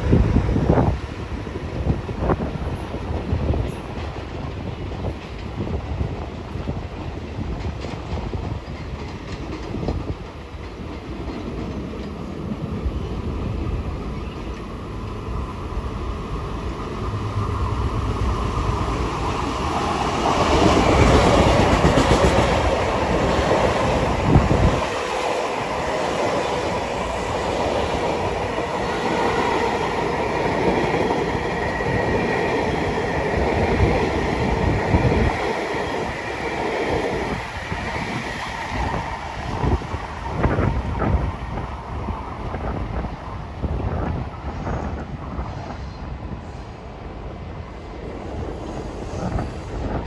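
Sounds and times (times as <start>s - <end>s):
train passing: 0.0s - 50.0s.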